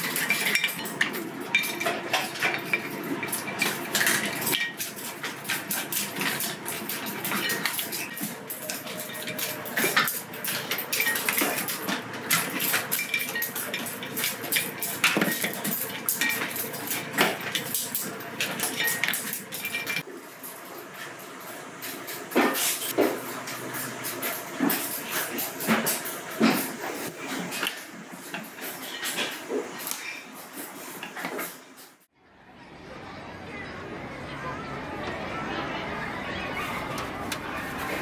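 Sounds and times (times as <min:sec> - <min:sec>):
dishes and utensils clinking: 0:00.0 - 0:32.1.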